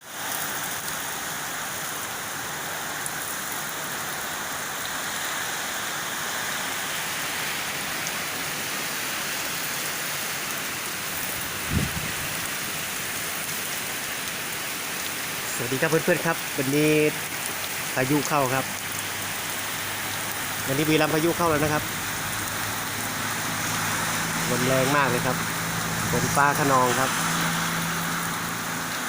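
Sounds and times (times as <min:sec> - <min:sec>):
heavy rain falling: 0:00.1 - 0:29.0.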